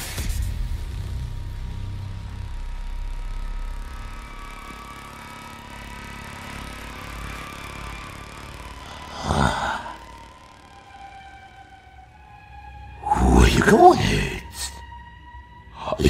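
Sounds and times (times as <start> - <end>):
eerie high drone: 1.2 - 16.0.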